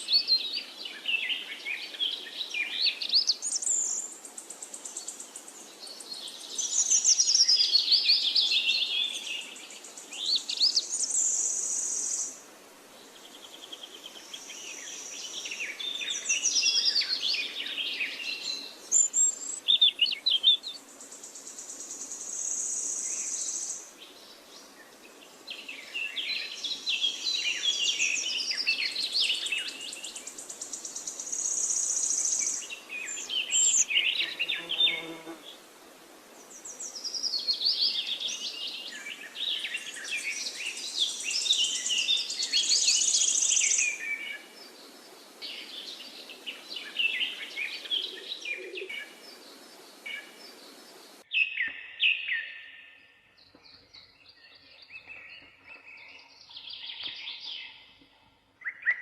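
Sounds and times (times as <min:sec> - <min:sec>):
wild birds singing: 0:00.0 - 0:59.0
steady hiss: 0:02.3 - 0:51.3.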